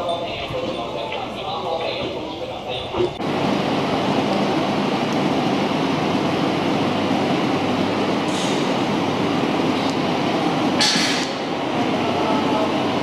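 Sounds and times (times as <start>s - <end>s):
cable car rail rumble: 0.0s - 13.0s.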